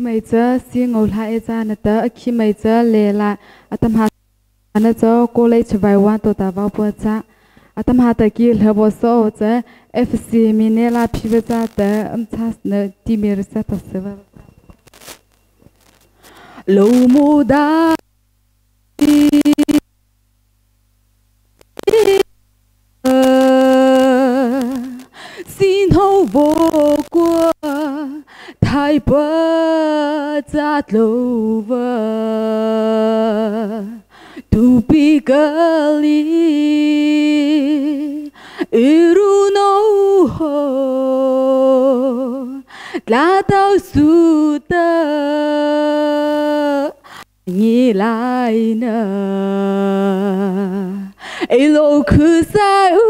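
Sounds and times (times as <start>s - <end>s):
woman singing unaccompanied: 0.0s - 14.3s, 16.6s - 18.0s, 19.0s - 19.8s, 21.8s - 22.3s, 23.0s - 53.0s.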